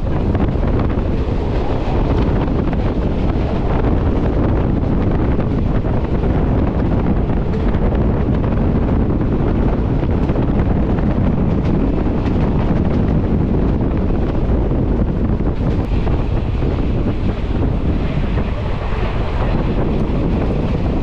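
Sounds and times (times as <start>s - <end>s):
train running on rails: 0.0s - 21.0s
wind buffeting microphone: 0.0s - 21.0s.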